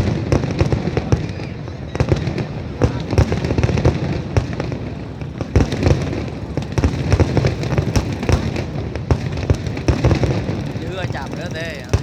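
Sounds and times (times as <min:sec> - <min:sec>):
continuous low rumble: 0:00.0 - 0:12.0
fireworks bangs and crackles: 0:00.0 - 0:12.0.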